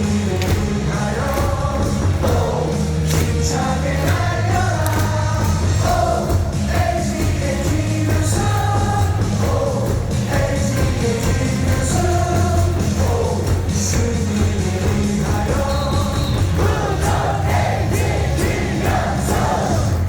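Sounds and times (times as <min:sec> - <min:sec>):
amplified music with bass beat: 0:00.0 - 0:20.0
stadium crowd singing in unison: 0:00.0 - 0:20.0.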